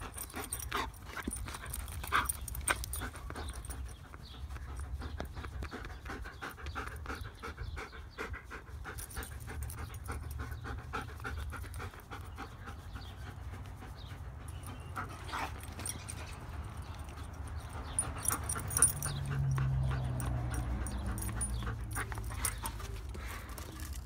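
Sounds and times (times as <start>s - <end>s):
dog panting rapidly: 0.0s - 24.0s.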